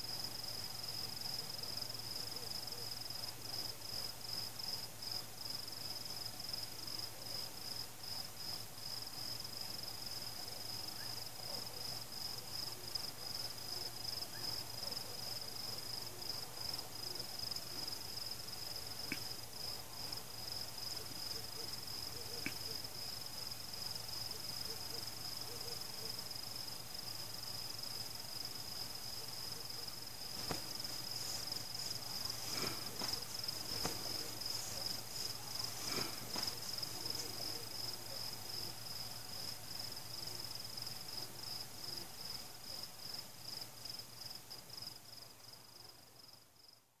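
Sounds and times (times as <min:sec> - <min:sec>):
crickets chirping: 0:00.0 - 0:46.8.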